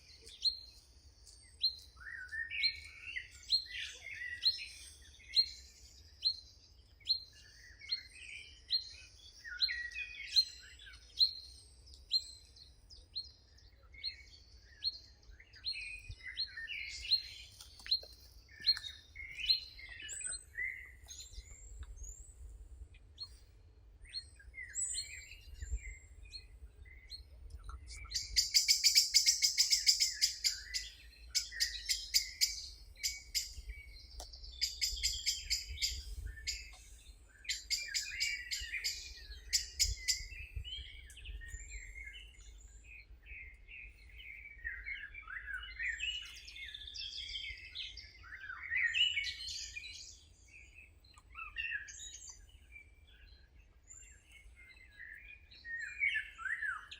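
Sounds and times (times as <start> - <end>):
bird singing loud high trills: 0.0 - 56.9
songbirds chirping and warbling: 0.0 - 56.9.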